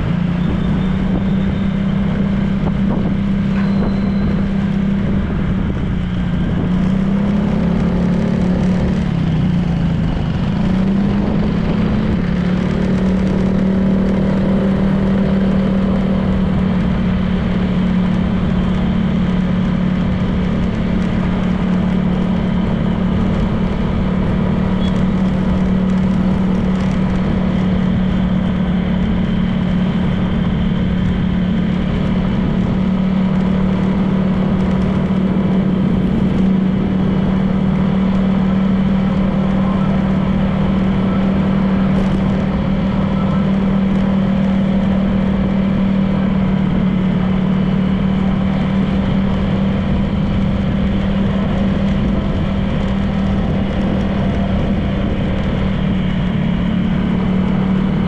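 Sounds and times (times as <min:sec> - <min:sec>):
road and wind noise: 0:00.0 - 0:58.0
scooter engine running: 0:00.0 - 0:58.0.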